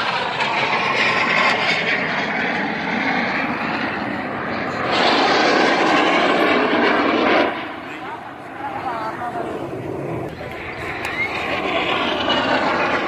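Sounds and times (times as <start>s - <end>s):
jets roaring overhead: 0.0s - 13.0s.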